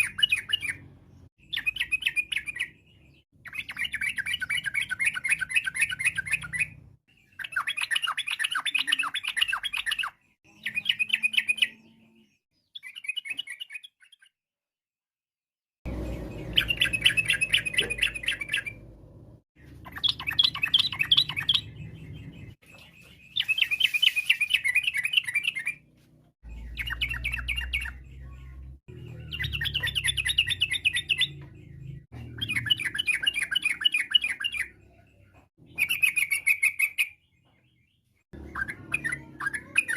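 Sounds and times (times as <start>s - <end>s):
bird chattering song: 0.0s - 14.4s, 15.9s - 18.9s, 19.6s - 25.8s, 26.4s - 39.9s.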